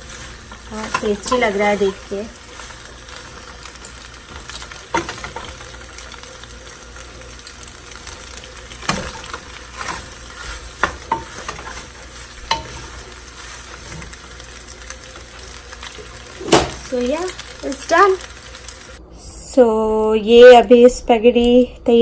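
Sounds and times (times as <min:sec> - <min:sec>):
pasta sizzling in a pan: 0:00.0 - 0:19.0.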